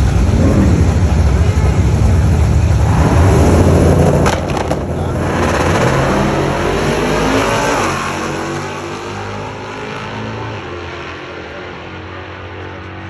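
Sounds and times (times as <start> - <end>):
car engine running loud: 0.0 - 13.0.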